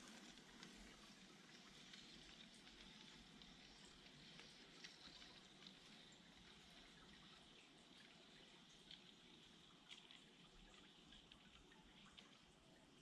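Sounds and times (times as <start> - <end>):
faint steady hiss: 0.0 - 13.0
soft ticks: 0.1 - 12.9.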